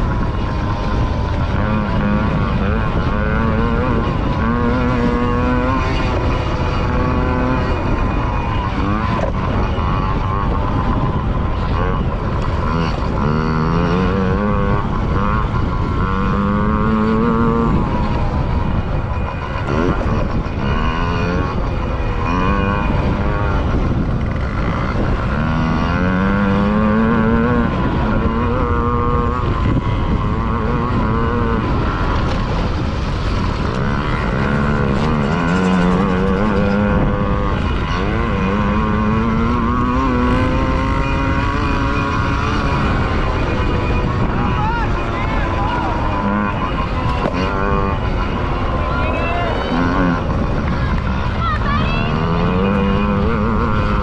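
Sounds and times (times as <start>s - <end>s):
small two-stroke motorbike engine: 0.0s - 54.0s
wind rushing across microphone: 0.0s - 54.0s.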